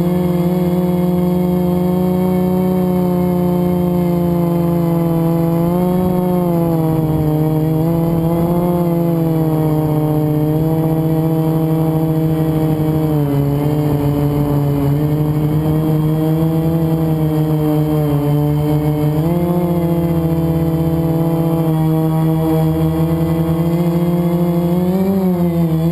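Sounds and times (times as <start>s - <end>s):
drone motors and propellers whining: 0.0s - 25.9s.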